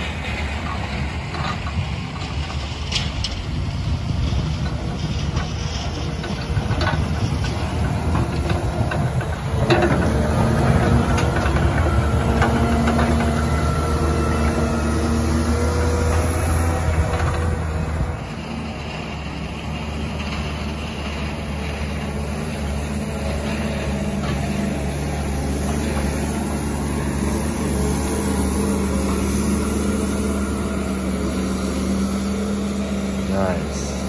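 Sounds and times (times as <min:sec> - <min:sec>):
wheel loader diesel engine running: 0:00.0 - 0:34.0.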